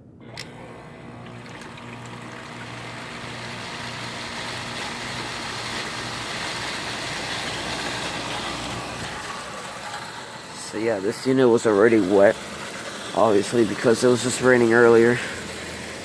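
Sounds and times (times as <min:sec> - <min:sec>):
air conditioner compressor humming: 0:00.0 - 0:16.0
fan rushing air: 0:00.0 - 0:16.0.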